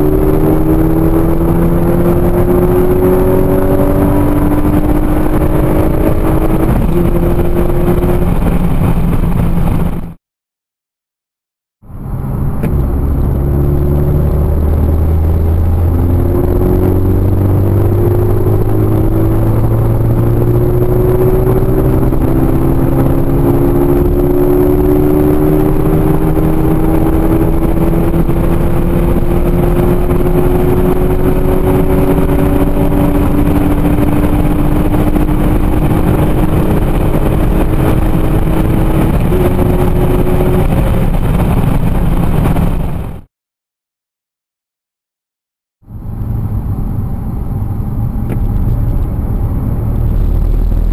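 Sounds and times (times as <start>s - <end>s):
car engine accelerating: 0.0s - 10.2s, 11.8s - 43.3s, 45.9s - 50.9s.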